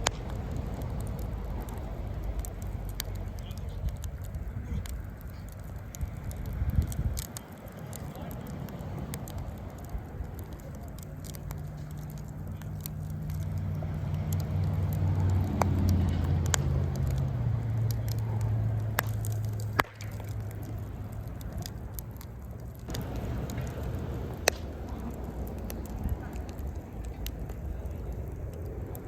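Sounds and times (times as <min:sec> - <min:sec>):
low engine hum: 0:00.0 - 0:29.0
wood fire crackling: 0:00.0 - 0:29.0.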